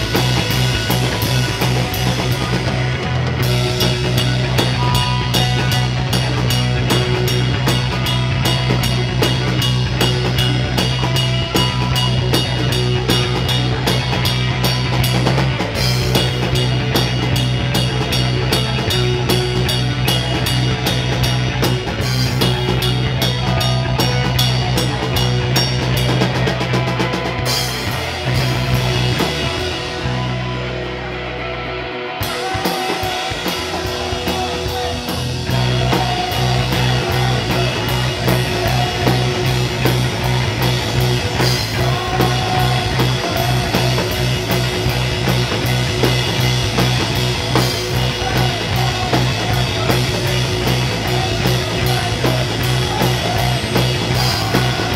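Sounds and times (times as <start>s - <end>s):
drum kit: 0.0s - 54.9s
electric bass: 0.0s - 54.9s
electric guitar: 0.0s - 54.9s.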